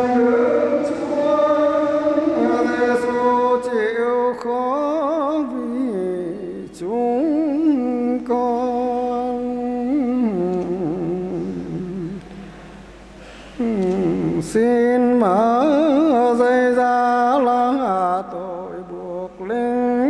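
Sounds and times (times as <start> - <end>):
solo voice chanting: 0.0 - 12.2, 13.5 - 20.0.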